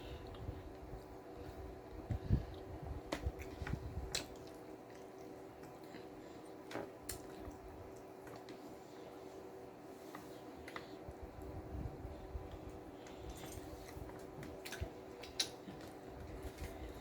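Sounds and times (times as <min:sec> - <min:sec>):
chewing sandwich: 0:00.2 - 0:11.0, 0:12.3 - 0:17.0.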